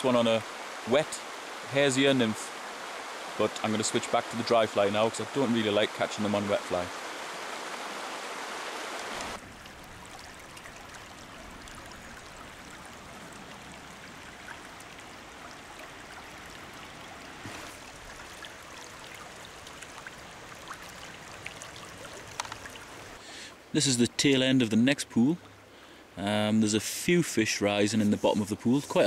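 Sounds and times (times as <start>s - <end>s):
rocky river running: 0.0s - 25.0s.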